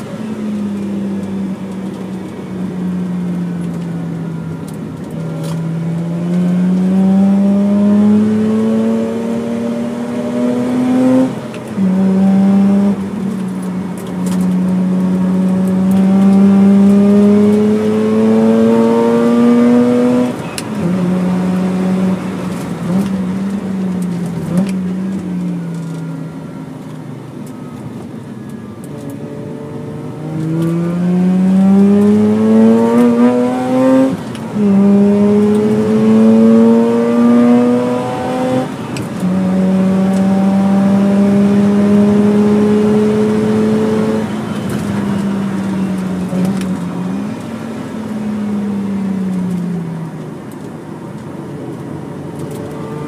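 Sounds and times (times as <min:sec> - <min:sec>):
rotary engine revving in cabin: 0:00.0 - 0:26.6, 0:28.8 - 0:53.0.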